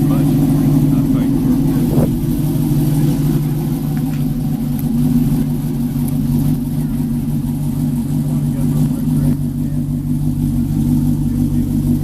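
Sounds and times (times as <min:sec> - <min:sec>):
pickup truck engine droning: 0:00.0 - 0:12.0.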